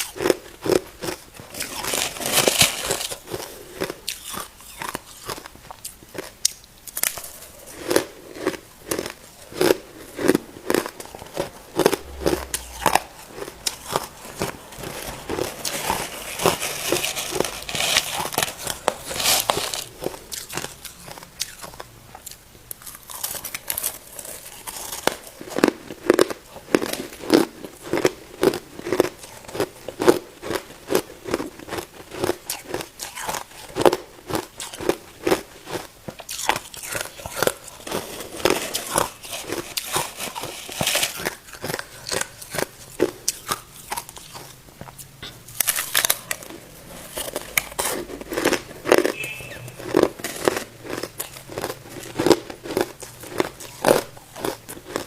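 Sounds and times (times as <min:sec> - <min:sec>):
person crunching ice: 0:00.0 - 0:05.6, 0:06.2 - 0:21.8, 0:22.8 - 0:44.5, 0:45.6 - 0:55.0.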